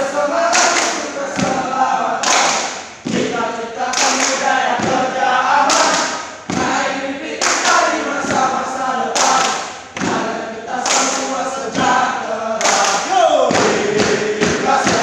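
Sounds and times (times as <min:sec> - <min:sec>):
group chanting a team cheer: 0:00.0 - 0:15.0.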